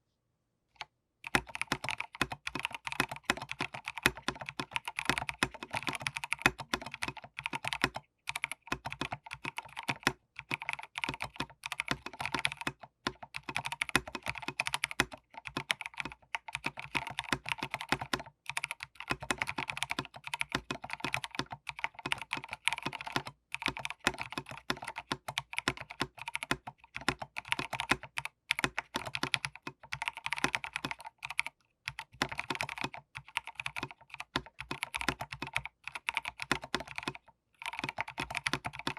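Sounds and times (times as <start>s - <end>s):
mechanical keyboard typing: 1.2s - 38.9s.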